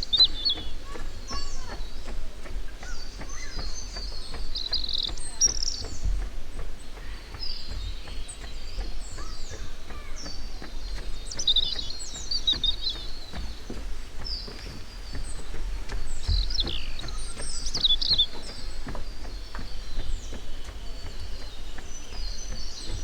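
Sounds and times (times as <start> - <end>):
birds chirping and trilling: 0.0 - 23.0
steady low rumble: 0.0 - 23.0.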